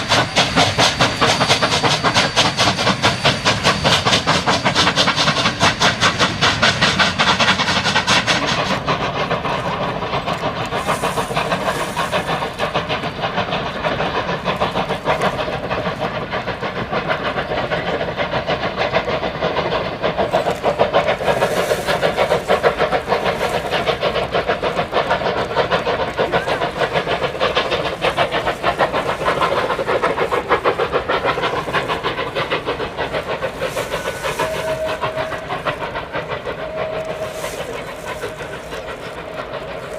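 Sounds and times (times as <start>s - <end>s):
steam hissing: 0.0s - 39.9s
steam locomotive beat: 0.0s - 39.9s.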